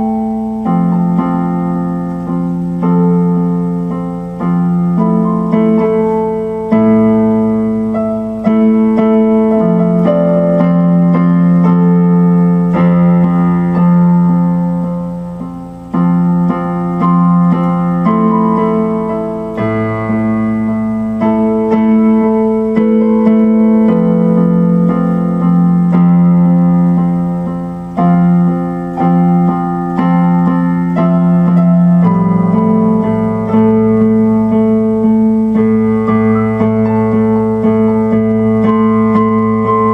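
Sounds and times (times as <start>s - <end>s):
electric keyboard chords: 0.0s - 39.9s.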